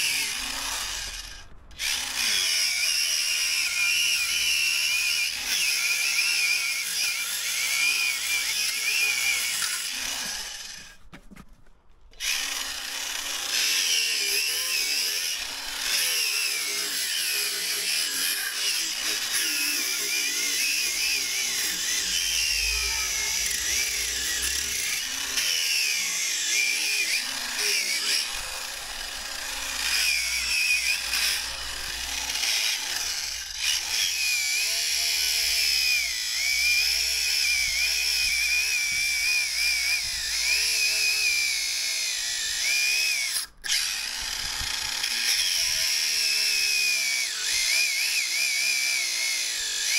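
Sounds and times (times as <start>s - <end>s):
angle grinder whine: 0.0s - 11.1s, 12.2s - 49.9s.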